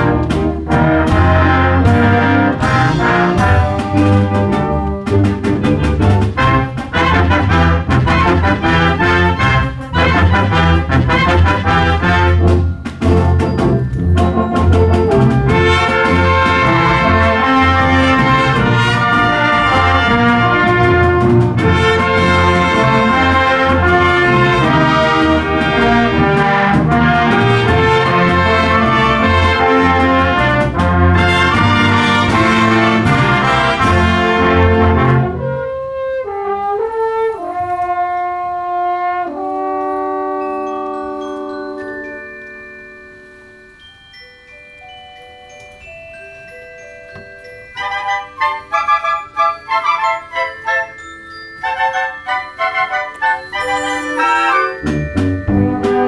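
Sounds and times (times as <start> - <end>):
concert band playing: 0.0 - 42.3, 47.7 - 56.0.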